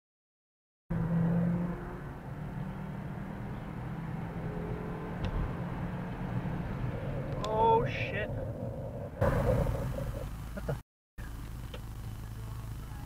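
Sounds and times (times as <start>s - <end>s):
car cabin road noise: 0.9s - 13.0s.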